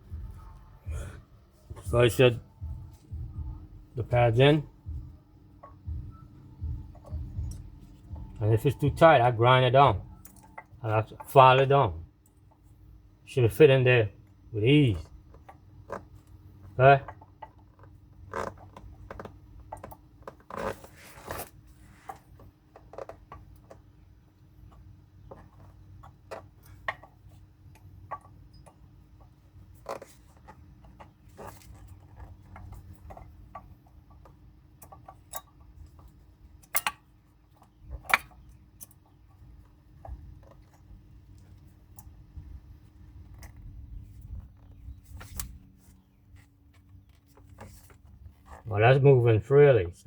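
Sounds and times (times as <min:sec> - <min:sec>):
faint steady hum: 0:00.0 - 0:50.0
brake pads clicking and clinking: 0:01.6 - 0:48.6.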